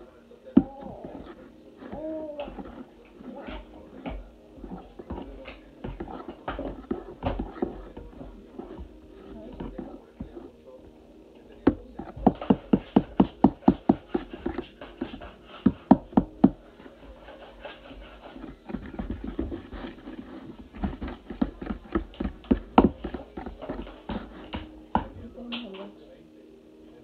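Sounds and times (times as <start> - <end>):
fork beating batter in bowl: 0.0 - 11.0, 11.6 - 25.1.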